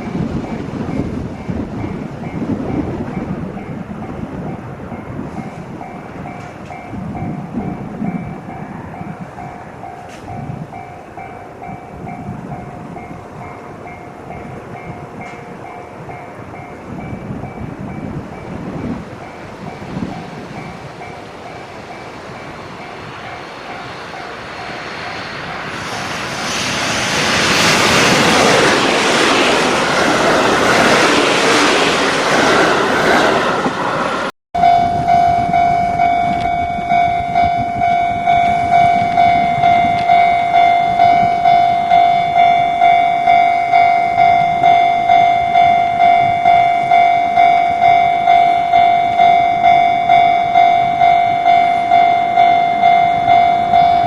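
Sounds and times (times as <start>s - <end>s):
crossing warning bell ringing: 0.0s - 26.1s, 34.6s - 54.0s
train rushing past: 0.0s - 54.0s.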